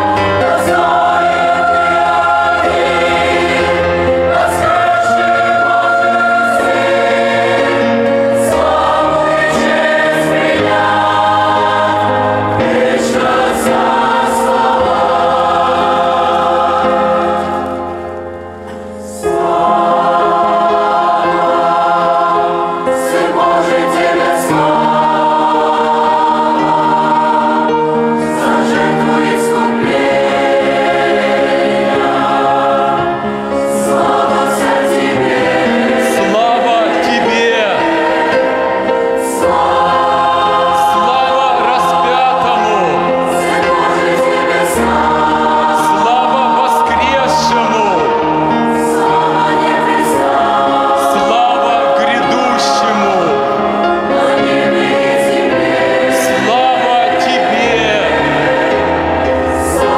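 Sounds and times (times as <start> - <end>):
church choir singing a hymn: 0.0 - 59.9.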